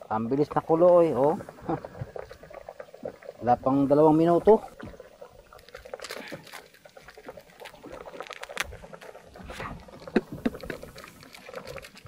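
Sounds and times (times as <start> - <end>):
pot boiling and bubbling: 0.0 - 12.0.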